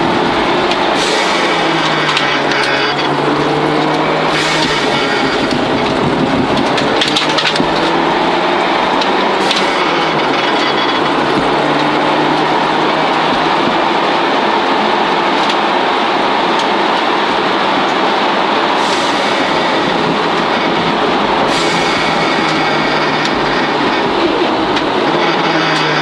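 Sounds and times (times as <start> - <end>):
car engine accelerating: 0.0 - 26.0
road and tyre noise: 0.0 - 26.0.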